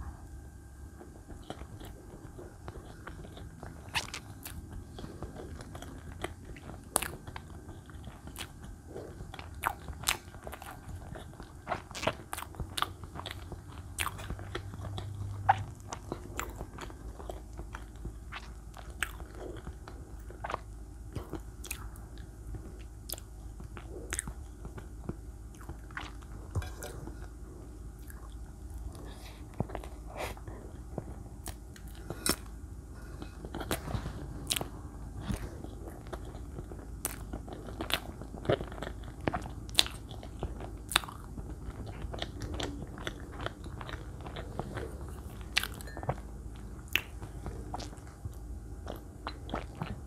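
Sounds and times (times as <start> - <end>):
chewing soft cake: 0.0 - 50.0.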